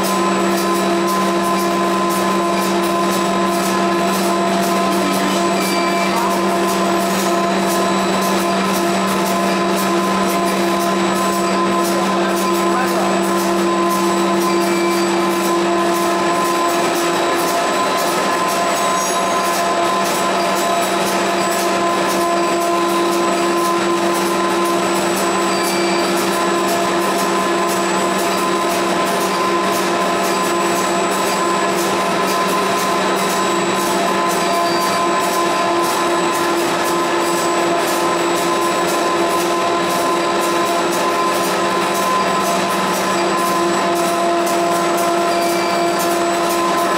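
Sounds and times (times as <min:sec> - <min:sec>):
printing press hum and whine: 0:00.0 - 0:46.9.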